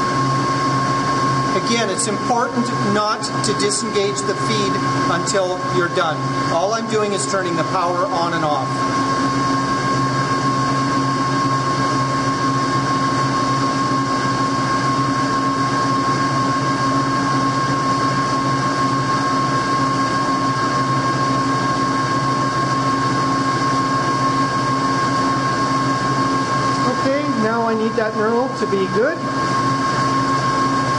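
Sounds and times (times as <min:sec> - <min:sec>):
metal lathe hum and whine: 0:00.0 - 0:30.9.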